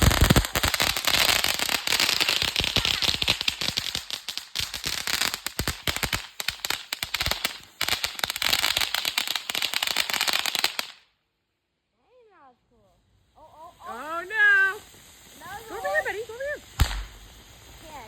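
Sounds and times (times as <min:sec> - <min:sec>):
fireworks crackling: 0:00.0 - 0:11.2, 0:12.1 - 0:18.0.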